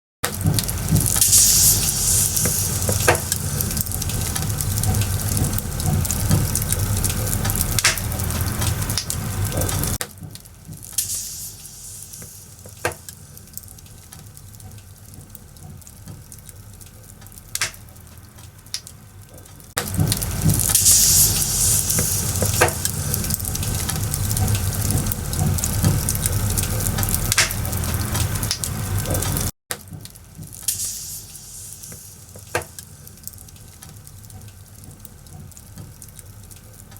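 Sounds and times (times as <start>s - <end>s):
bonfire hissing and crackling: 0.2s - 36.9s
rumbling fire: 0.2s - 36.9s.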